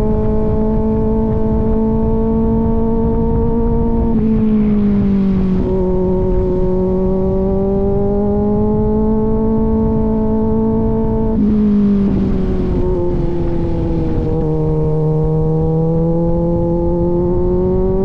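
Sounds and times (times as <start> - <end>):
wind rushing: 0.0 - 17.8
motorcycle engine while riding: 0.0 - 18.0.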